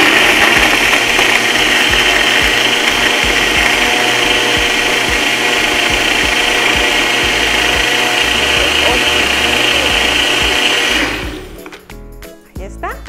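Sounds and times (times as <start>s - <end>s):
blender motor running: 0.0s - 11.6s.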